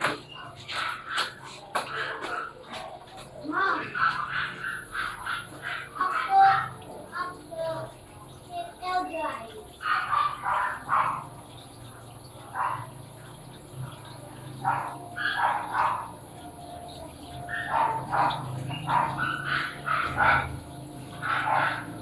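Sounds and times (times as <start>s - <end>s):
dog barking: 0.6s - 7.0s, 9.7s - 22.0s.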